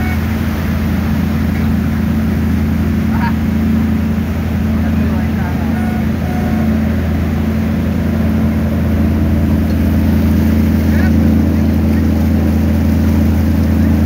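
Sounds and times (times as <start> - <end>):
boat engines droning: 0.0 - 14.0.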